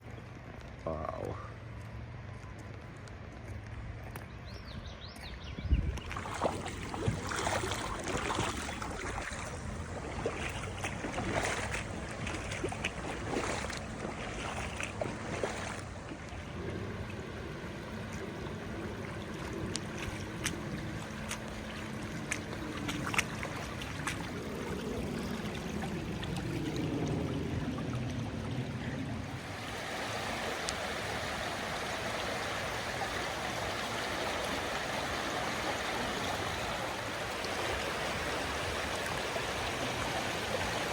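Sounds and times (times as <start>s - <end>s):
floodwater rushing: 5.9s - 40.9s.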